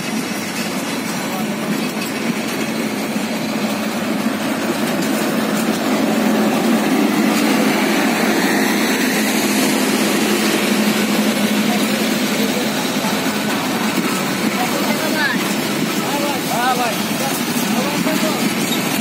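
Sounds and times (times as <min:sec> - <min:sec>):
train carriages moving past: 0:00.0 - 0:19.0.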